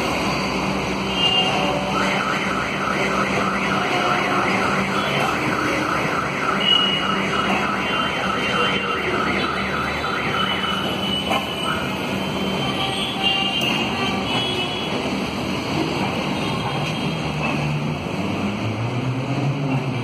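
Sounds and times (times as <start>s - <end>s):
train coaches rolling past: 0.0s - 20.0s.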